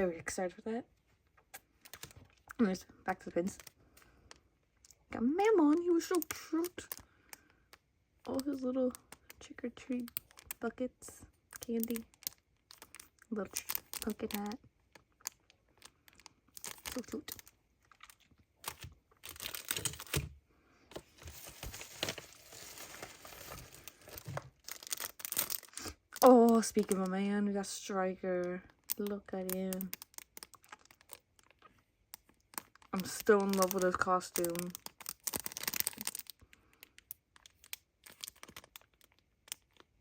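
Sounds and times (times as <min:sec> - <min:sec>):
packaging crinkling and tearing: 0:01.6 - 0:02.6, 0:03.4 - 0:10.7, 0:11.5 - 0:20.3, 0:21.0 - 0:27.2, 0:28.7 - 0:40.0.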